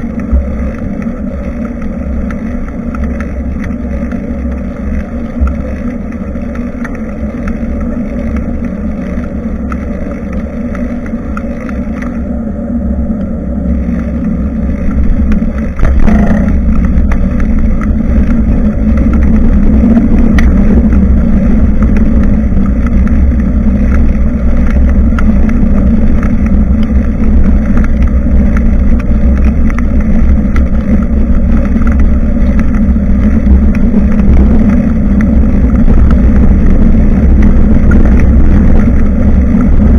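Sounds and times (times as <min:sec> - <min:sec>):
bicycle rolling noise: 0:00.0 - 0:39.9
wind rumbling on microphone: 0:00.0 - 0:39.9.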